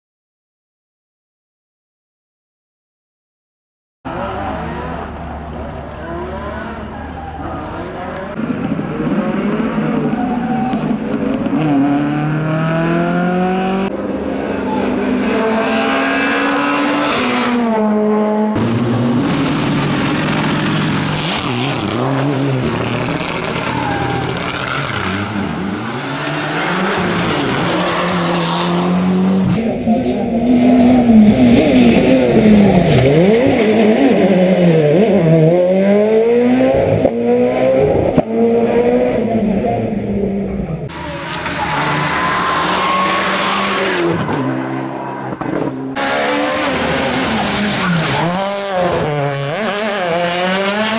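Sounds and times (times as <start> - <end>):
rally car engines revving: 4.1 - 50.9.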